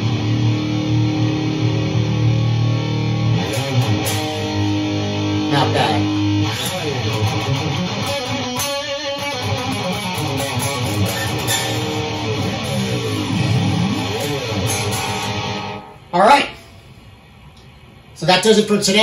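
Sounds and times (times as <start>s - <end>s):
electric guitar strumming chords: 0.0s - 16.1s.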